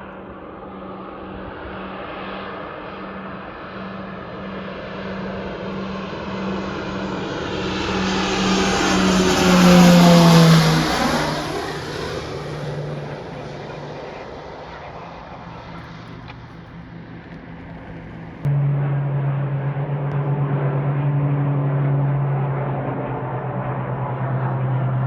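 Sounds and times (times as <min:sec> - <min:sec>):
propeller airplane flying past: 0:00.0 - 0:25.0.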